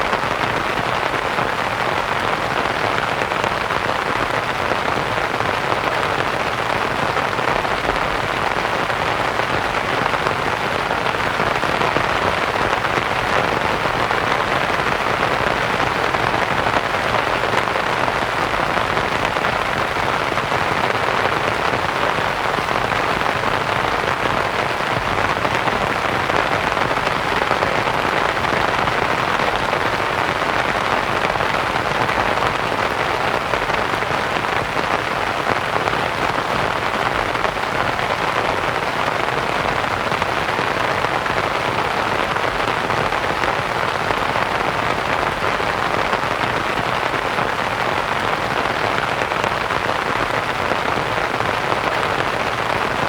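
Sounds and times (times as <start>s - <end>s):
rain pattering on a canvas tent: 0.0s - 53.0s.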